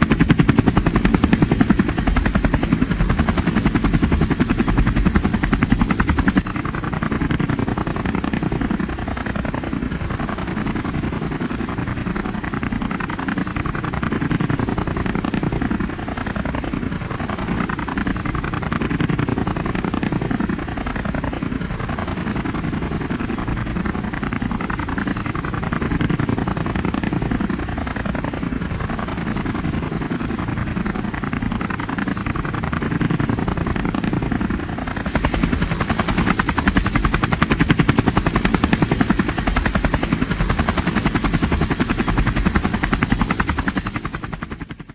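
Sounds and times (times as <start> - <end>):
helicopter rotor chopping: 0.0 - 44.9.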